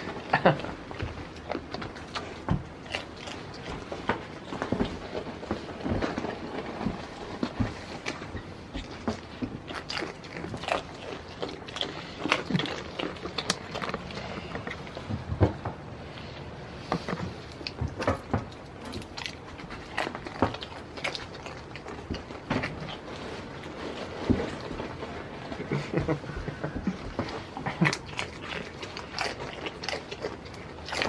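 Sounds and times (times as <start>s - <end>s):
goat crunching a treat: 0.0s - 31.0s.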